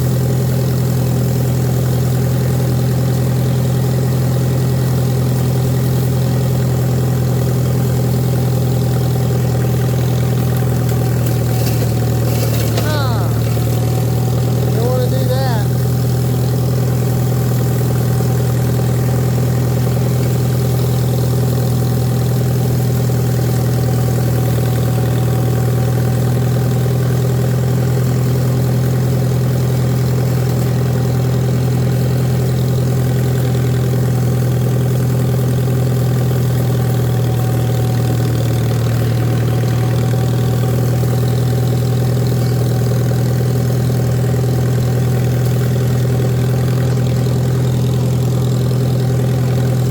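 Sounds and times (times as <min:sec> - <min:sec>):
tractor engine running steadily: 0:00.0 - 0:49.9.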